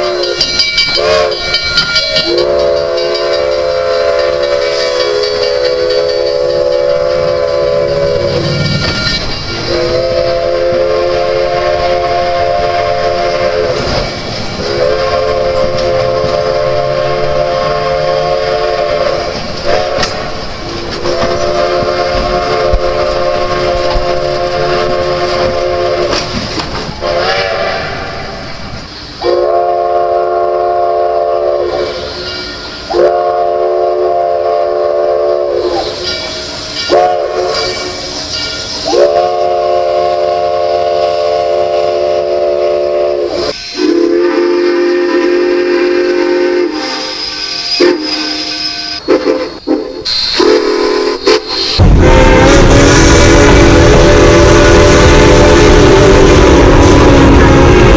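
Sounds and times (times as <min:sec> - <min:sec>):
steam locomotive chime whistle: 0:00.0 - 0:57.9.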